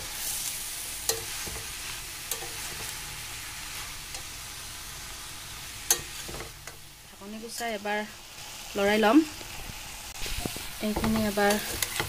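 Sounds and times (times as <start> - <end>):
food sizzling in pot: 0.0 - 12.0.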